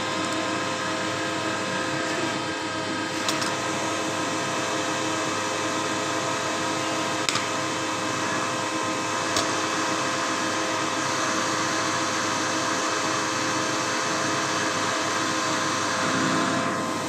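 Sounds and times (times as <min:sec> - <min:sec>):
machine hum and whir: 0:00.0 - 0:17.0.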